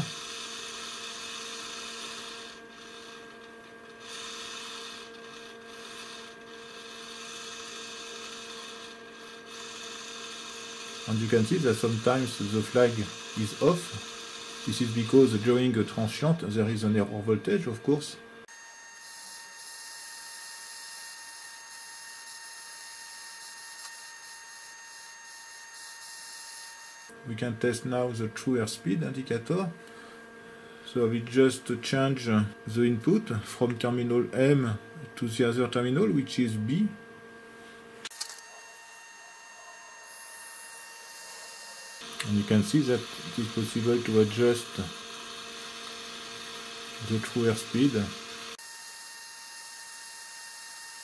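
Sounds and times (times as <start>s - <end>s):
faint servo whir: 0.0s - 27.2s, 32.2s - 51.0s
steady electrical hum: 0.0s - 50.7s.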